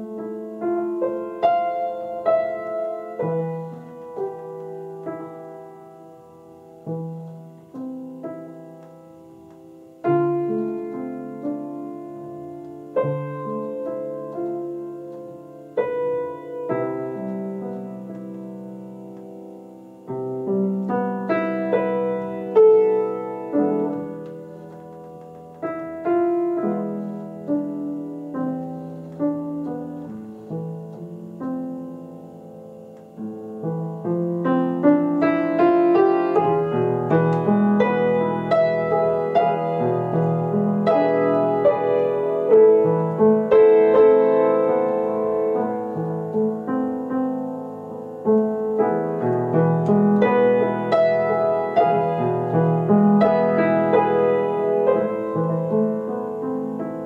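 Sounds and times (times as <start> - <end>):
slow jazz piano solo: 0.0 - 57.0.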